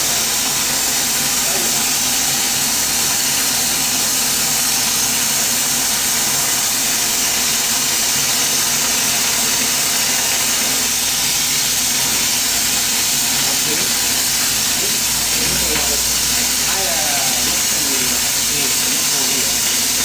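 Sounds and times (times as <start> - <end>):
gas torch flame hissing: 0.0 - 20.0.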